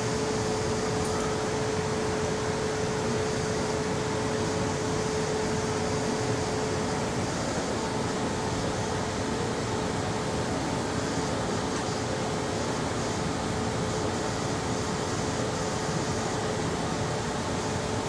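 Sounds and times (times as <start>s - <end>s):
ventilation fan: 0.0s - 18.0s.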